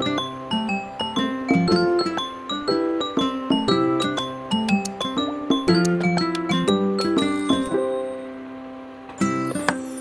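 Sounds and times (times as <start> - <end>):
plucked bell-like melody: 0.0 - 8.2.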